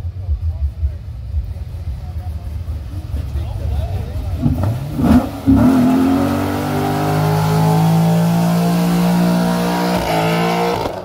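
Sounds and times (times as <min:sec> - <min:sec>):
car engine revving: 0:01.5 - 0:11.0.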